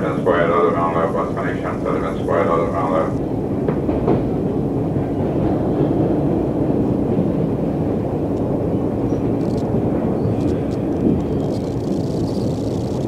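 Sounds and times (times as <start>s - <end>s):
rumble of train wheels on rail: 0.0s - 13.0s.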